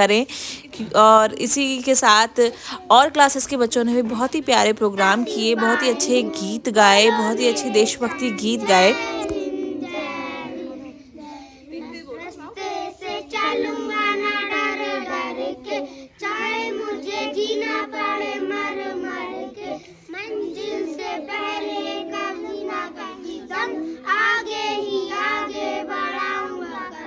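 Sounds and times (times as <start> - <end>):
children singing together: 5.0 - 27.0.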